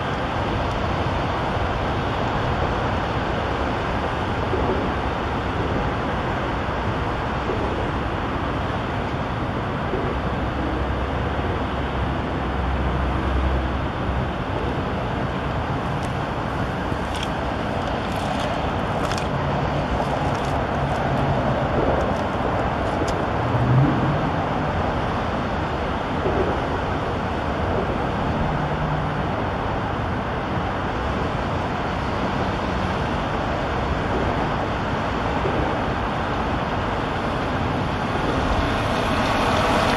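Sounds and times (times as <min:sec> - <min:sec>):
highway traffic noise: 0:00.0 - 0:39.9.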